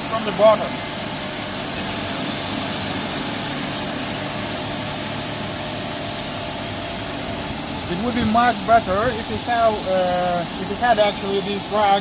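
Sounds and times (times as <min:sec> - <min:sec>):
rug washing machine hissing: 0:00.0 - 0:12.0.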